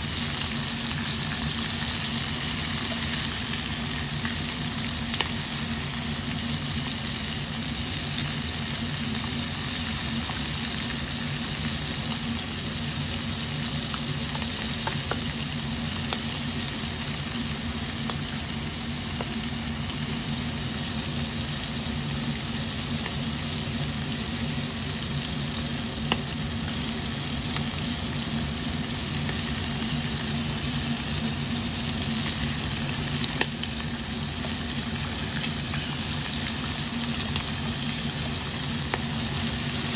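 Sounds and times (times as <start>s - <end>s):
oil sizzling with pops: 0.0s - 39.9s.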